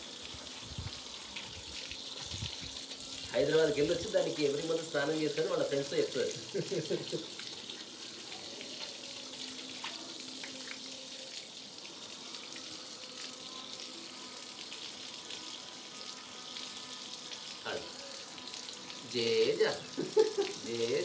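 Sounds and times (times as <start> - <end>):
hose water spraying and splashing: 0.0 - 21.0.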